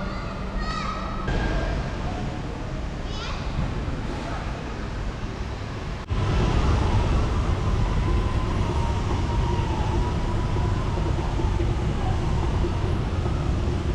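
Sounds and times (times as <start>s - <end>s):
low vehicle rumble: 0.0s - 13.9s.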